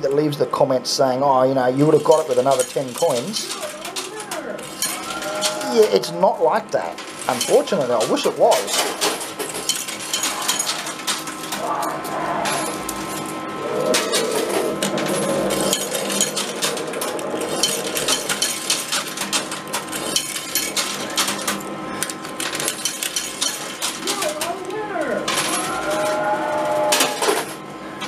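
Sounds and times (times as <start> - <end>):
steady machine hum: 0.0 - 28.0
metal coins clinking: 1.8 - 11.6, 12.4 - 27.6.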